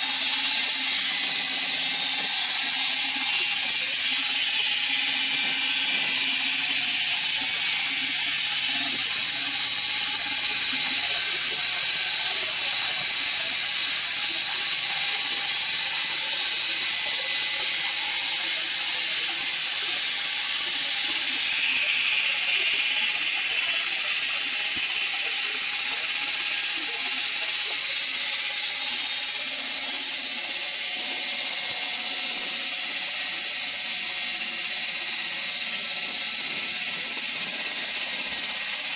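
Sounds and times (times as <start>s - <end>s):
circular saw cutting stone: 0.0s - 38.9s.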